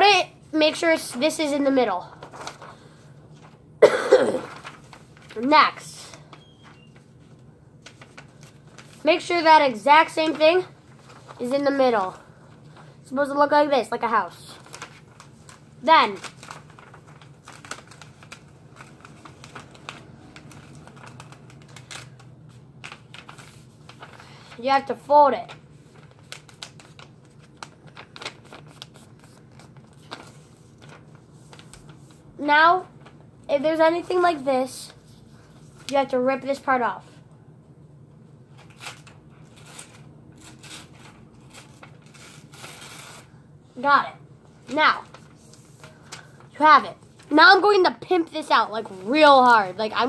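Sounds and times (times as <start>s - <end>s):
paper crackling being folded: 0.0s - 3.8s, 4.4s - 37.2s, 38.2s - 50.0s.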